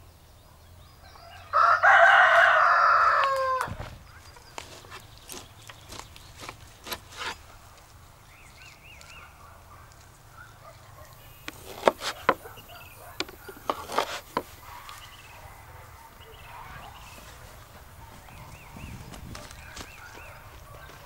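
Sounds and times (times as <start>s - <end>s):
small birds chirping: 3.2s - 21.0s.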